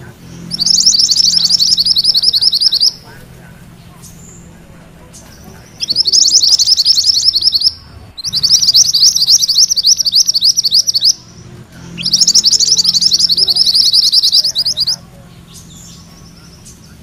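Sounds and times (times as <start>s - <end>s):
songbird trilling: 0.0s - 17.0s.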